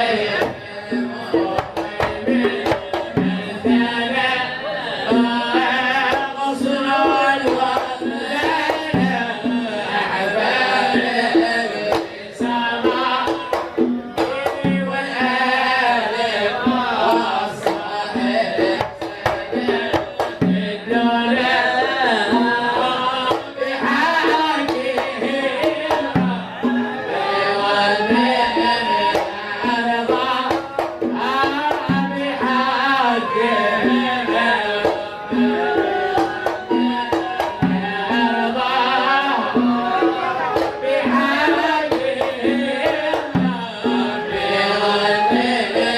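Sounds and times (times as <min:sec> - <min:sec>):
hand drums beating: 0:00.0 - 0:04.3, 0:05.0 - 0:45.9
devotional singing: 0:00.0 - 0:45.9.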